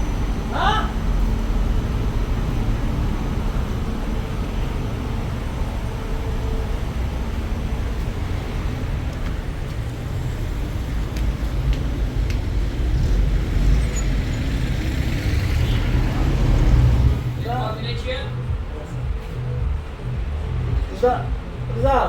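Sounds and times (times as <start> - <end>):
vehicle engine and road rumble: 0.0 - 22.0.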